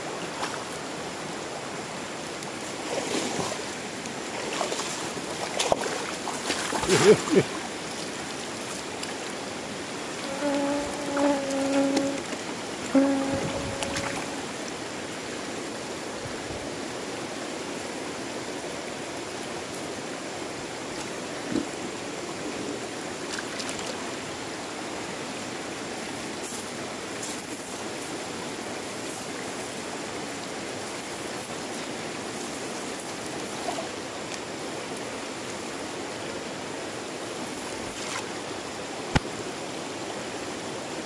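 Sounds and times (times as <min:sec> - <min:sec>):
river water rushing over rocks: 0:00.0 - 0:41.0.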